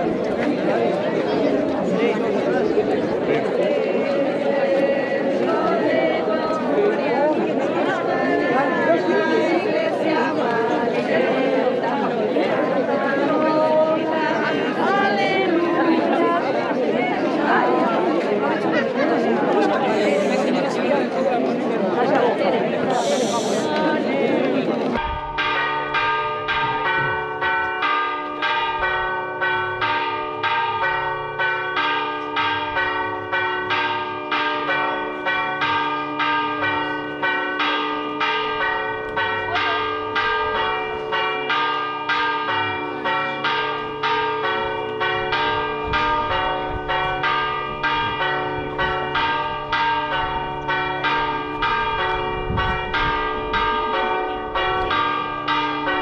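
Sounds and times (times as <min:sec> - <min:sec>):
church bells pealing: 0:00.0 - 0:23.1, 0:24.5 - 0:56.0.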